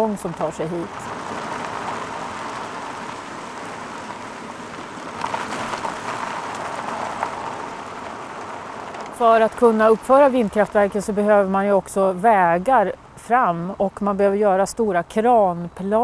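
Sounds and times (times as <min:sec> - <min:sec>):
tyres rolling over gravel: 0:00.0 - 0:12.9.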